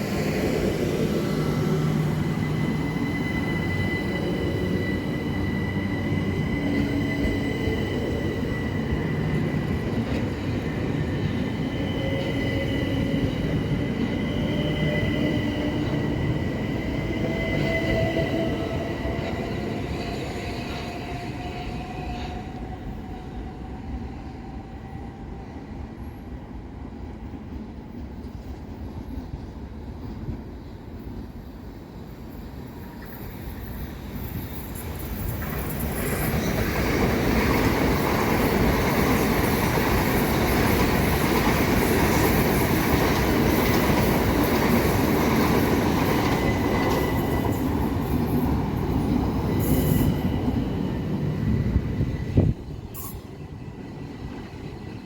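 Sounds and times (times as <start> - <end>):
high-pitched train whine: 0.0 - 28.4, 29.0 - 55.0.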